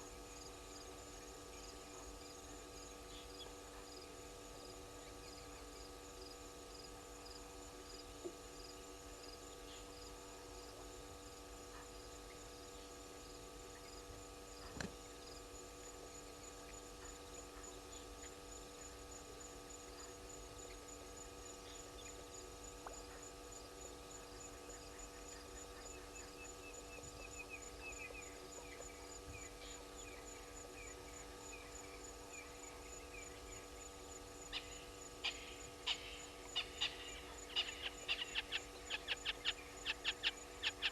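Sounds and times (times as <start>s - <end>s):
steady electrical hum: 0.0s - 40.9s
insects chirping: 0.1s - 40.9s.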